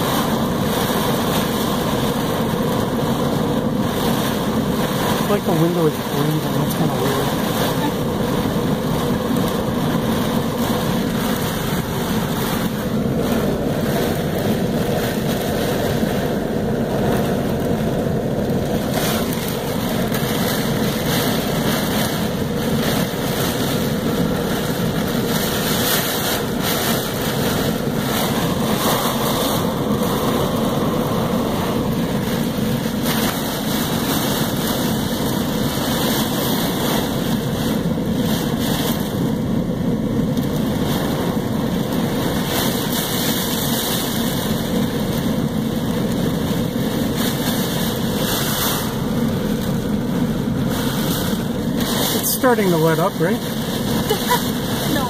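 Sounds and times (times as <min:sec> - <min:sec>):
gusting wind: 0:00.0 - 0:55.0
heavy rain downpour: 0:00.0 - 0:55.0.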